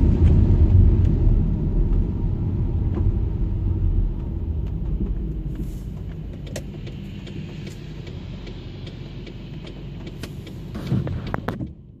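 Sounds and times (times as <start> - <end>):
cars passing on wet road: 0.0 - 11.6
windscreen wiper sweep: 0.0 - 11.8
car engine rumble: 0.0 - 12.0
raindrops tapping on car: 0.1 - 11.9.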